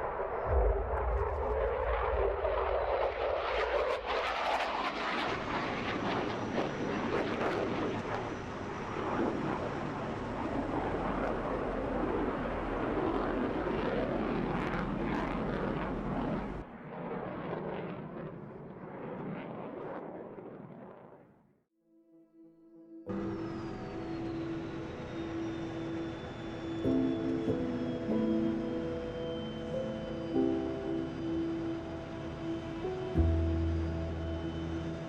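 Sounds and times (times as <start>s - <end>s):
fighter jet engine roar: 0.0s - 21.0s, 23.1s - 35.0s.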